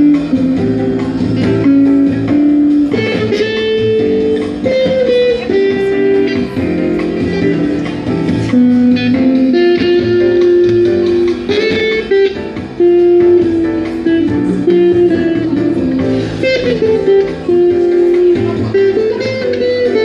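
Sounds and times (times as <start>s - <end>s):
guitar melody: 0.0s - 20.0s.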